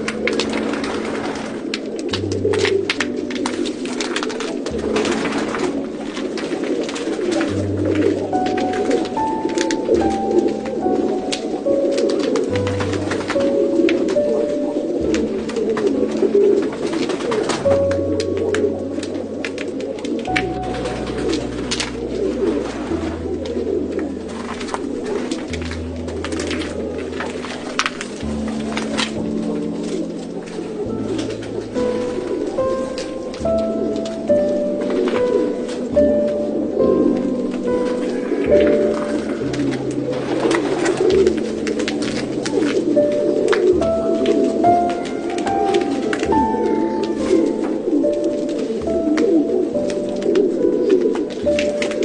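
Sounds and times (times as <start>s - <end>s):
pigeons cooing: 0.0s - 52.0s.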